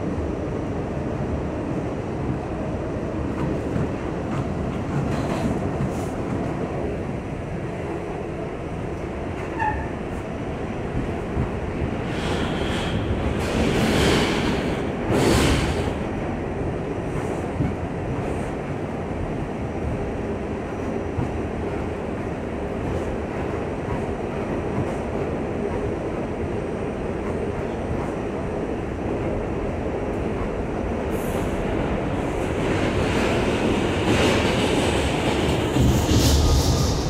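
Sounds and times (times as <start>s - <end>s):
clickety-clack of rails: 0.0s - 37.0s
subway wheels rumbling on rails: 0.0s - 37.0s.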